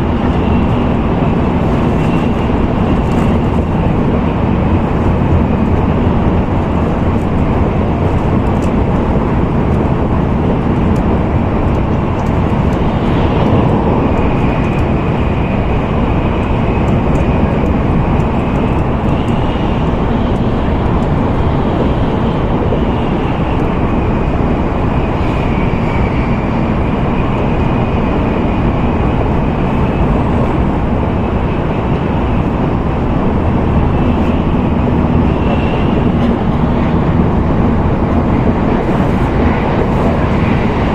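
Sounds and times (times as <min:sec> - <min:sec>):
train rumbling inside cabin: 0:00.0 - 0:40.9.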